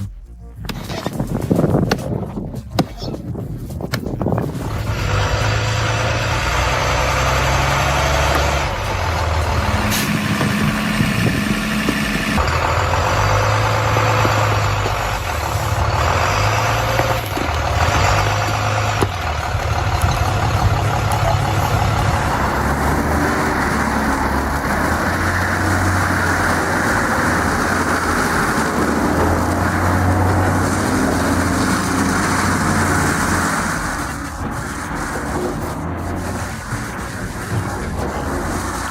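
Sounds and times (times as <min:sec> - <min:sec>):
heavy vehicle engine running: 0:03.9 - 0:38.9.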